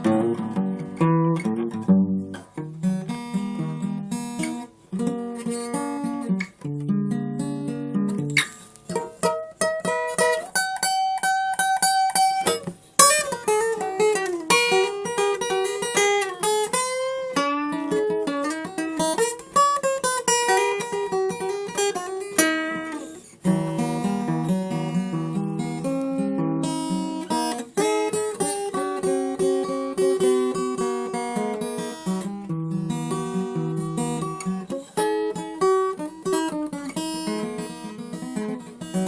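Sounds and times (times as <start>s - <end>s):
solo acoustic guitar: 0.0s - 39.0s.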